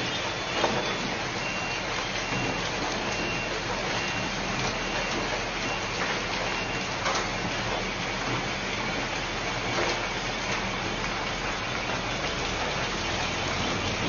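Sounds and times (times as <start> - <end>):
hail pelting the ground: 0.0 - 14.0.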